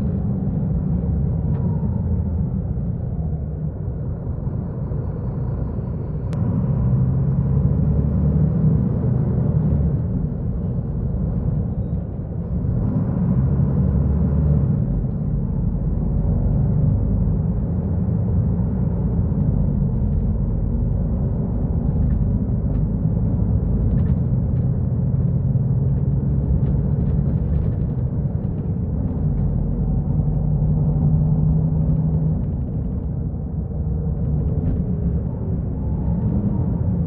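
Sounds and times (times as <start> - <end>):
bus diesel engine rumbling: 0.0 - 37.0.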